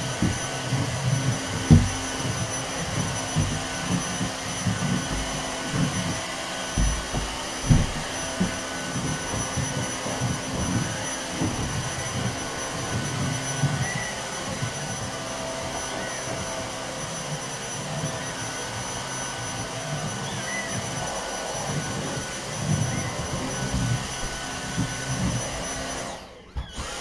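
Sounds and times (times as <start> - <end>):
vacuum cleaner bumping: 0.0 - 27.0
vacuum cleaner whirring: 0.0 - 27.0.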